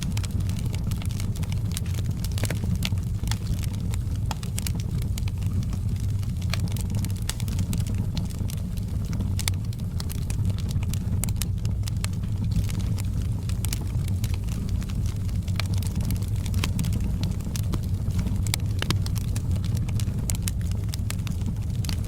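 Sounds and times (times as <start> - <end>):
flames rumbling: 0.0 - 22.0
wood crackling and popping: 0.0 - 22.0.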